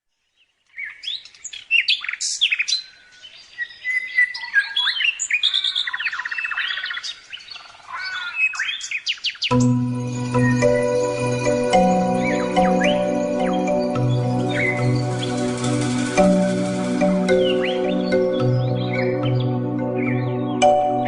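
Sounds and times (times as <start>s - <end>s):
songbirds chirping and trilling: 0.1s - 21.0s.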